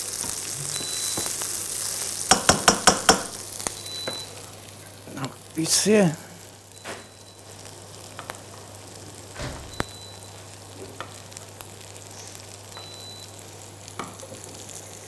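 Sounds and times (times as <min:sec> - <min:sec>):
onion sizzling in frying pan: 0:00.0 - 0:15.0.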